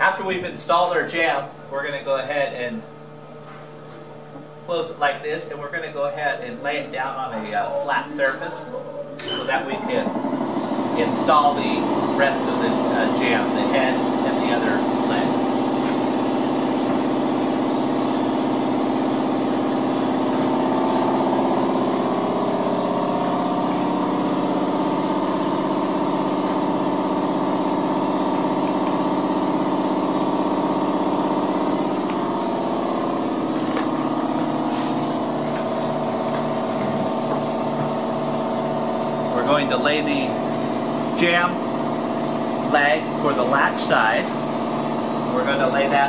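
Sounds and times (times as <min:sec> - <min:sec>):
machine motor drone: 0:06.8 - 0:46.0.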